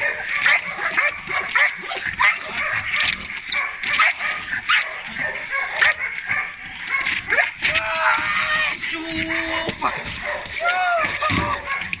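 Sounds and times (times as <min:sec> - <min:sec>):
dog barking rapidly: 0:00.0 - 0:07.8, 0:09.2 - 0:12.0.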